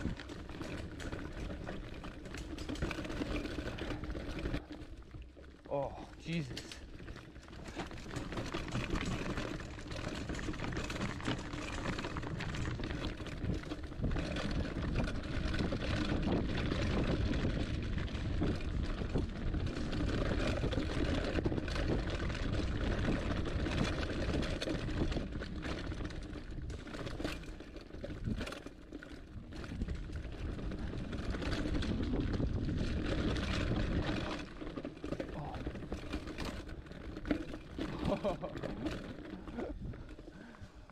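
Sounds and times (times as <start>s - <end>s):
bike rattling: 0.0s - 40.9s
bike tyres rolling over rocks: 0.0s - 40.9s.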